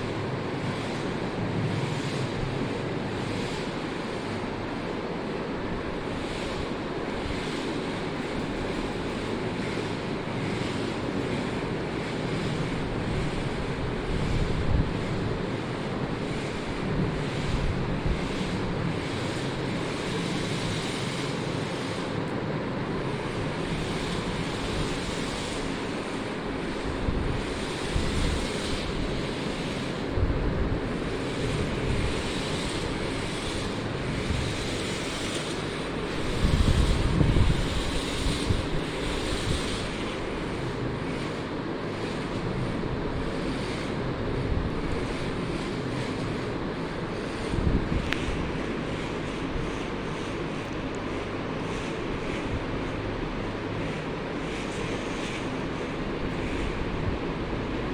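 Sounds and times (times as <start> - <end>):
wind buffeting microphone: 5.7 - 57.9.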